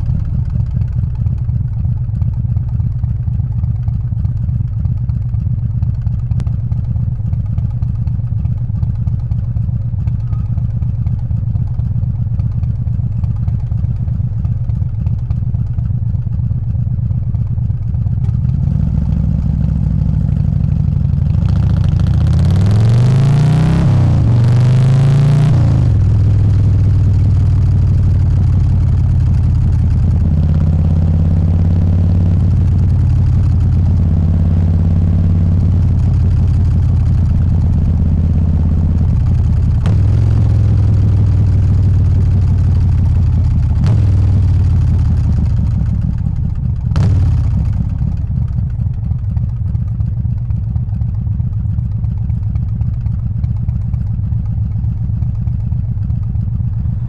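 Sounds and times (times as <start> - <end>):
motorcycle engine running loud: 0.0 - 57.0.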